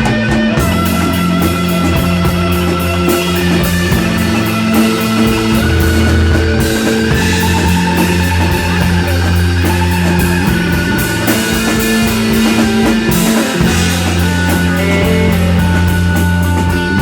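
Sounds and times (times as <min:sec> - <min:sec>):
bass notes: 0:00.0 - 0:17.0
drum kit with cymbal strokes: 0:00.0 - 0:17.0
guitar lines: 0:00.0 - 0:17.0.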